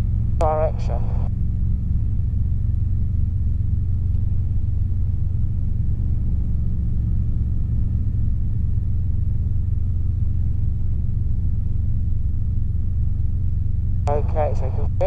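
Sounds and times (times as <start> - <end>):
helicopter engine and rotors rumbling: 0.0 - 15.0.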